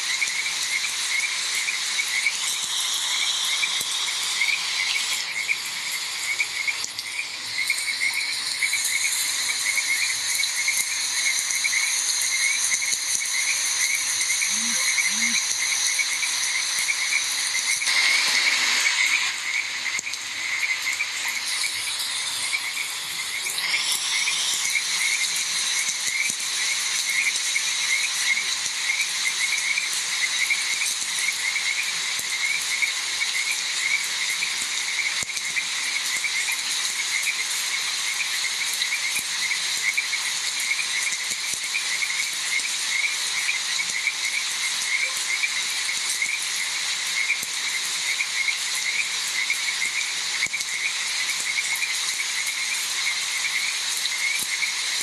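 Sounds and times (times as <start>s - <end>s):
frog chorus: 0.0s - 55.0s
high insect drone: 0.0s - 55.0s.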